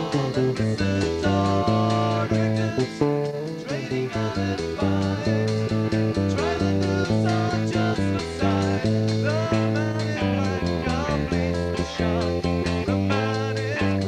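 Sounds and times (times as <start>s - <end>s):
band playing live: 0.0s - 14.0s
guitar: 0.0s - 14.0s
steady bass line: 0.0s - 14.0s.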